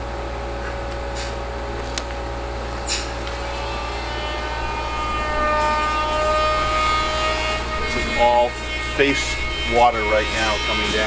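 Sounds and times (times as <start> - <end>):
low mechanical hum: 0.0 - 11.0
higher several-toned drone: 1.5 - 11.0.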